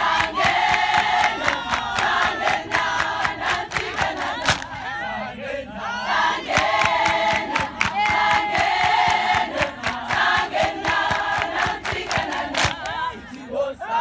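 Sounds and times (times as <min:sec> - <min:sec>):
rhythmic clapping: 0:00.0 - 0:05.0, 0:06.1 - 0:13.6
women's choir singing: 0:00.0 - 0:14.0.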